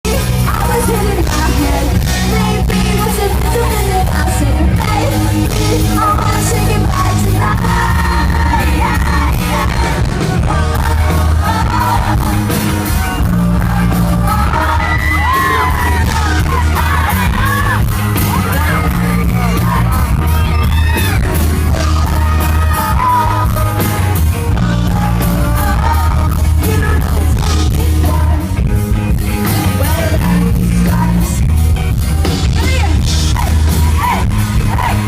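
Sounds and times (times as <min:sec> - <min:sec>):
live pop-rock band: 0:00.0 - 0:35.0
person singing: 0:00.0 - 0:35.0
fans yelling: 0:00.3 - 0:27.6, 0:32.0 - 0:35.0.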